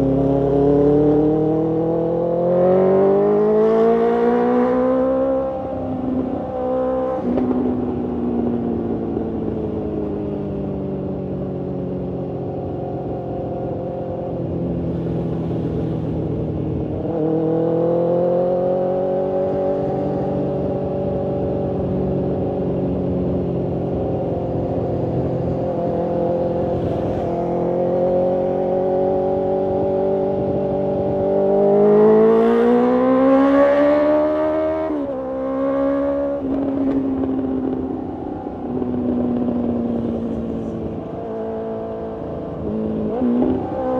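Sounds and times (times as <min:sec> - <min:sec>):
motorcycle engine and exhaust: 0:00.0 - 0:43.9.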